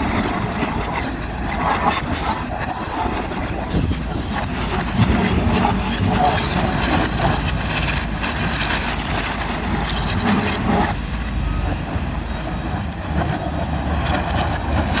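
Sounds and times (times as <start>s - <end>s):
excavator diesel engines rumbling: 0.0s - 15.0s.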